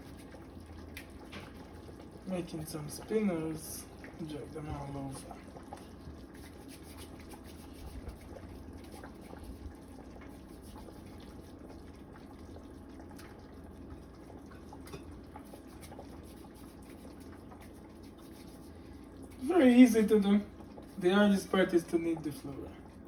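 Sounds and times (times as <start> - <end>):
soup bubbling in pot: 0.0 - 23.0.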